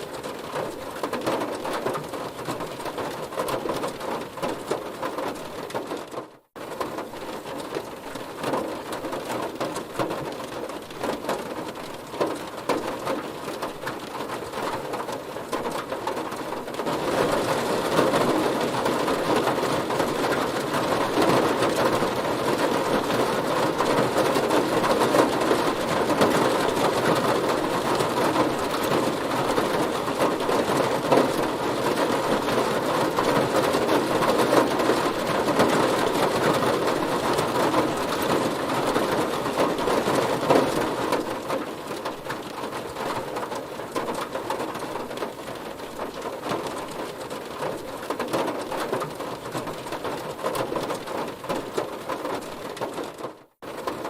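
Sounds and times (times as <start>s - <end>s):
heavy rain on a car body: 0.0s - 54.0s.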